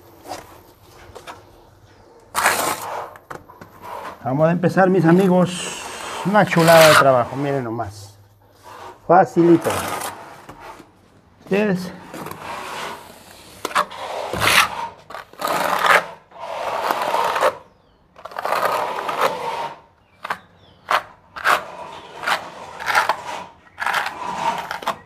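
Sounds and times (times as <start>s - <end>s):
trowel scraping adhesive on wall: 2.3s - 8.0s, 8.6s - 10.9s, 11.5s - 25.0s.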